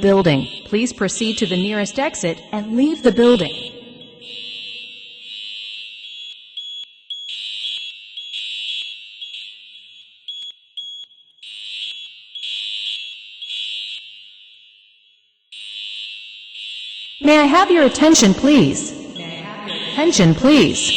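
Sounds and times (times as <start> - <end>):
fire alarm horns: 0.0 - 20.9.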